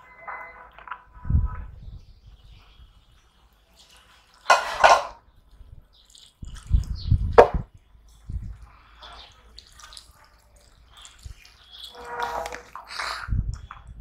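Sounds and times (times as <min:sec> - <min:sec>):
hands mixing wet food: 0:02.0 - 0:14.0.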